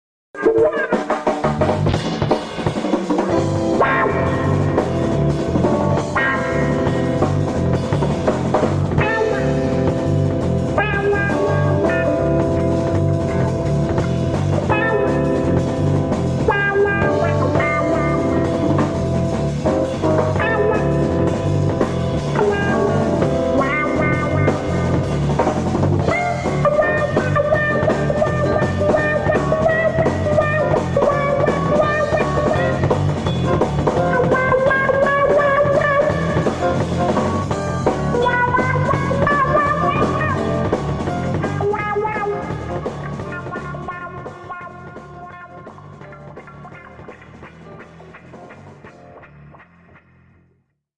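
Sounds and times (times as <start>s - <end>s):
drums: 0.3s - 50.6s
lead guitar bending notes: 0.4s - 49.3s
rock music: 0.4s - 50.4s.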